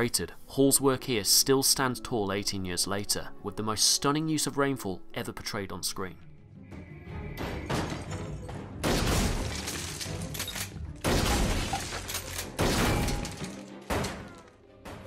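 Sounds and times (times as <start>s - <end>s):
film music: 0.0s - 15.0s.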